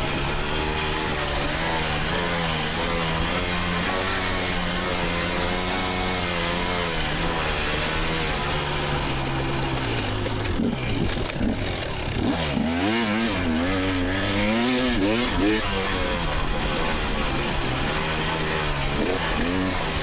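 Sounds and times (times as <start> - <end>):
two-stroke dirt bike engine revving: 0.0 - 20.0.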